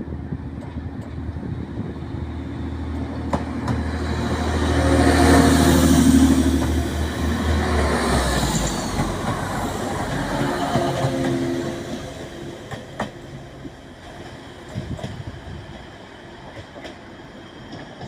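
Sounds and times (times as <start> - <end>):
diesel train engines pulling away: 0.0 - 14.7.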